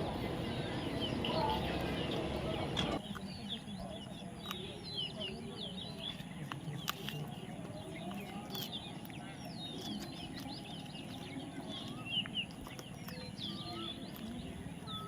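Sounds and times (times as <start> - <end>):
birds chirping: 0.0 - 15.0
steady background noise: 0.0 - 15.0.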